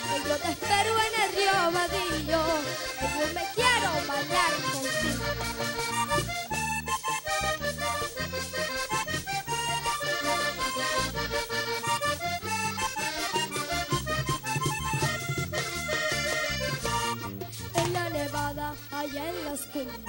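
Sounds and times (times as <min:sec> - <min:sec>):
button accordions playing melody: 0:00.0 - 0:20.0
percussion beats: 0:00.0 - 0:20.0
steady bass line: 0:00.0 - 0:20.0.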